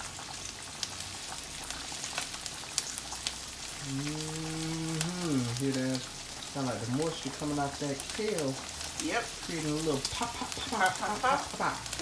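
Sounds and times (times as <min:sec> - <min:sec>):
kale sizzling in a skillet: 0:00.0 - 0:12.0.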